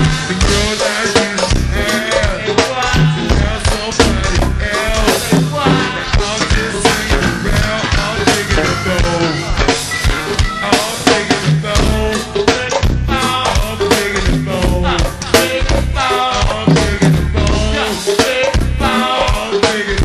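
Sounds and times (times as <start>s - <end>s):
drum kit and percussion groove: 0.0s - 20.0s
live band music: 0.0s - 20.0s.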